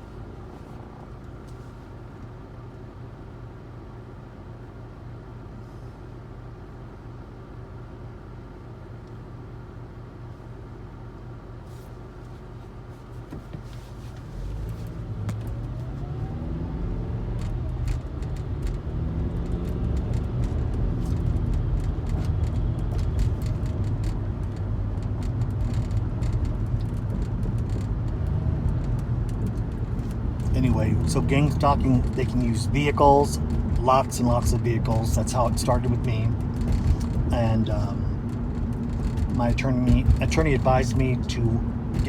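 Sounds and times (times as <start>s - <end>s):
low engine rumble: 0.0s - 42.0s.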